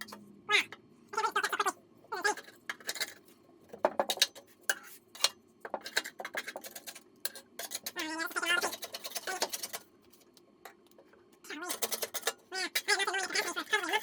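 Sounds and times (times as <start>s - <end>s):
clattering clicks and scrapes: 2.3s - 13.6s.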